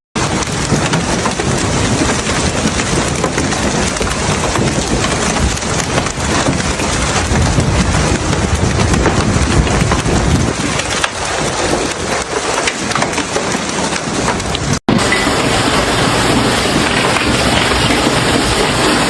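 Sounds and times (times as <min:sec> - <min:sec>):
heavy rain pouring: 0:00.2 - 0:19.0
rain ticking on surfaces: 0:00.2 - 0:19.0.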